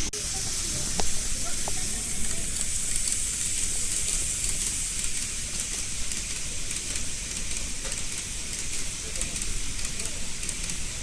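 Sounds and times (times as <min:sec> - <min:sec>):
model train wheels and motor hiss: 0:00.0 - 0:11.0.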